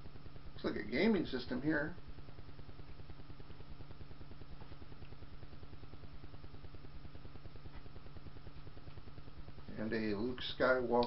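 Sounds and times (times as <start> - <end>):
low hum with fast pulsing: 0.0 - 11.0.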